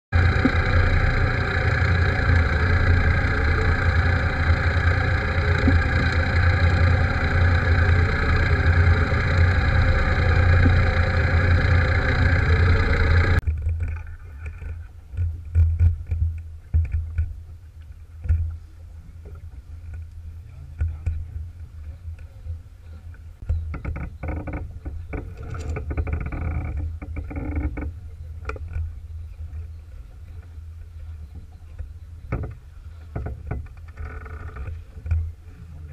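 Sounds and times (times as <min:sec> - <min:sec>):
boat engine running: 0:00.1 - 0:35.9
water rushing along hull: 0:00.2 - 0:35.9.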